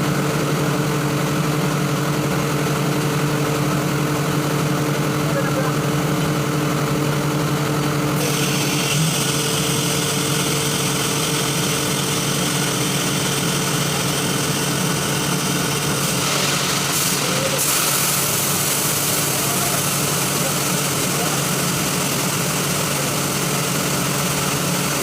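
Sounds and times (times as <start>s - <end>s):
air compressor humming: 0.0s - 25.0s.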